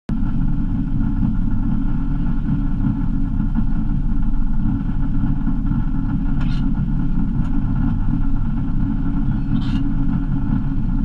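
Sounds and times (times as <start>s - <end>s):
car engine idling from inside cabin: 0.1s - 11.0s.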